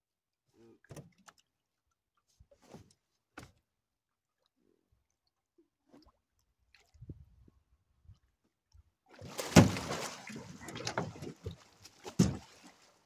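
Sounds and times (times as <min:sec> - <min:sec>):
water drips and small splashes: 0:00.5 - 0:13.0.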